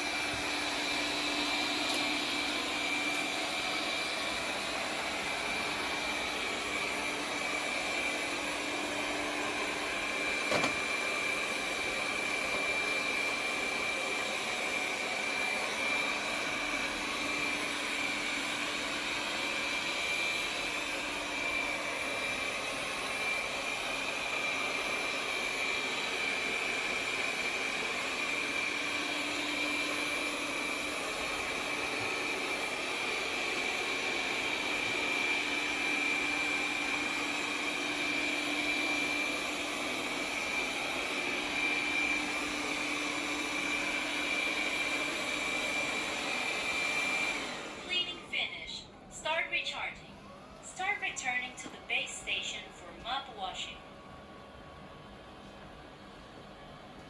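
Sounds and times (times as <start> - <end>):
robot vacuum motor hum and whine: 0.0 - 48.8.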